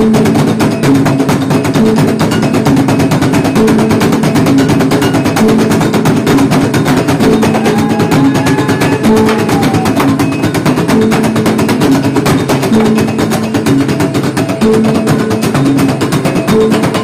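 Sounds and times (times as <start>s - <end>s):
large drums beaten rapidly: 0.0s - 17.0s.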